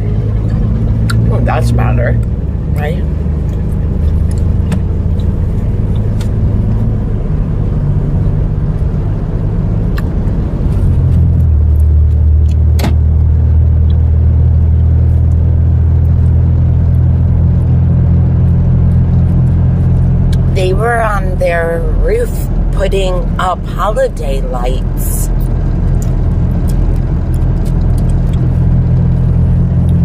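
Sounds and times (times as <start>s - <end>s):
road noise inside cab: 0.0s - 30.0s
truck engine drone: 0.0s - 30.0s.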